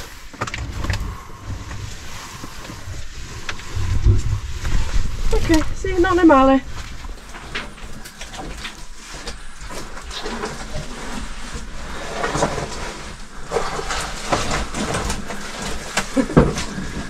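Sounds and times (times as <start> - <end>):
scraping and shuffling on mud and rock: 0.0 - 17.0.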